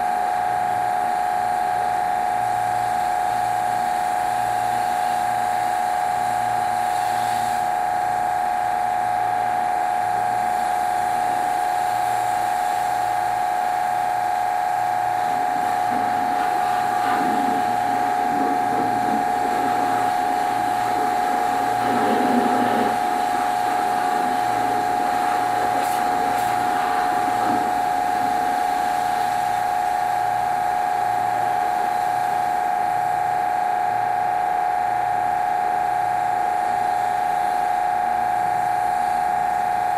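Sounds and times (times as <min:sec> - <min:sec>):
high-pitched electrical whine: 0:00.0 - 0:39.9.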